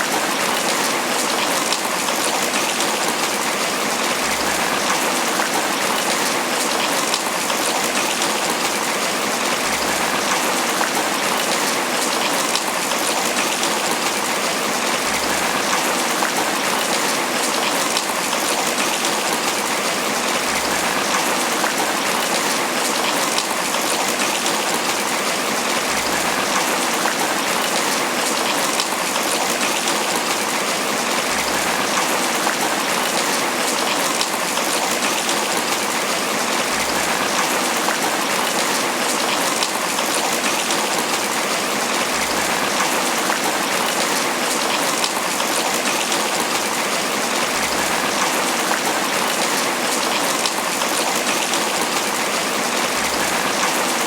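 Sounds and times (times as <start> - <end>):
heavy rain pattering on leaves: 0.0 - 54.0.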